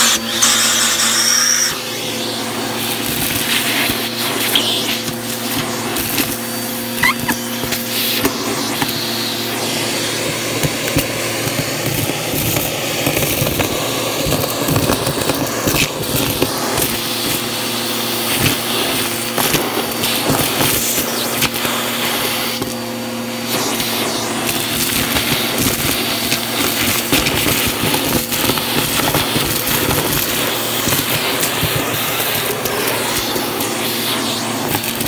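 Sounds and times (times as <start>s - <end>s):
grit crackling up nozzle: 0.0s - 22.8s, 23.4s - 35.0s
vacuum cleaner motor hum: 0.0s - 35.0s.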